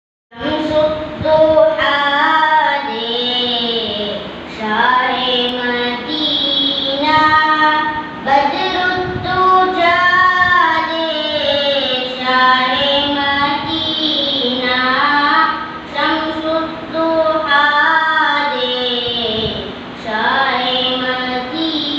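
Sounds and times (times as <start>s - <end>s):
boy singing into a microphone: 0.3s - 21.9s.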